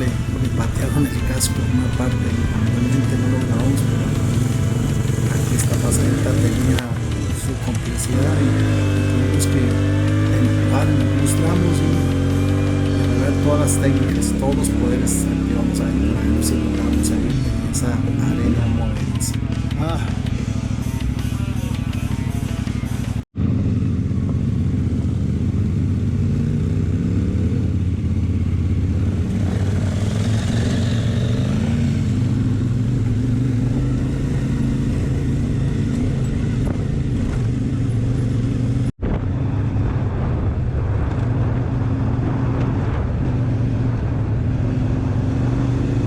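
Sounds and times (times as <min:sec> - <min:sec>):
motorcycle engine under load: 0:00.0 - 0:39.7.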